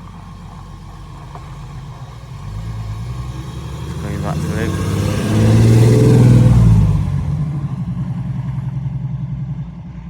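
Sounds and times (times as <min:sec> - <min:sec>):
car engine passing by: 0:01.2 - 0:10.0.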